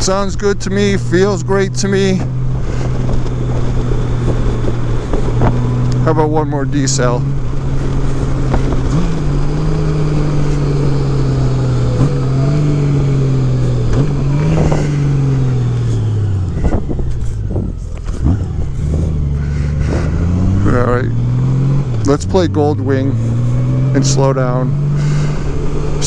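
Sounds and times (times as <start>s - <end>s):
motorcycle engine decelerating: 0.0s - 26.0s.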